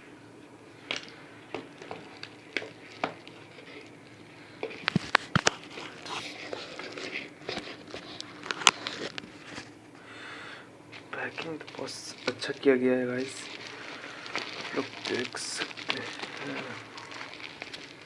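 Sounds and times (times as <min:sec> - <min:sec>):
packaging rustling: 0:00.8 - 0:10.1, 0:10.9 - 0:18.0.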